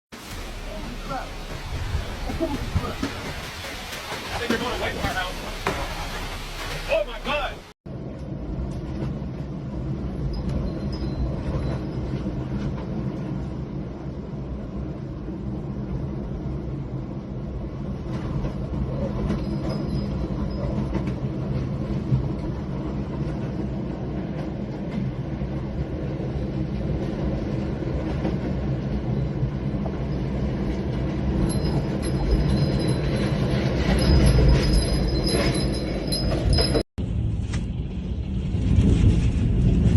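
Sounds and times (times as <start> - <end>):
steady low rumble: 0.1 - 39.9.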